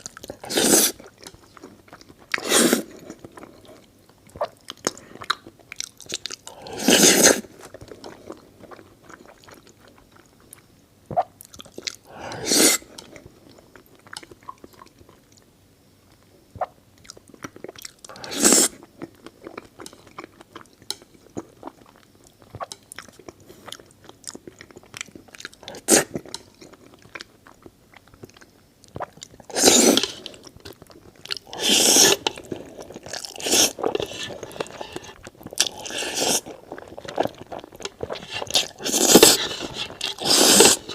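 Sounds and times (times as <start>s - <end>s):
chewing with wet clicks: 1.0s - 2.4s, 3.0s - 6.5s, 7.6s - 12.1s, 12.9s - 15.5s, 17.0s - 18.2s, 18.9s - 31.5s, 32.2s - 40.2s.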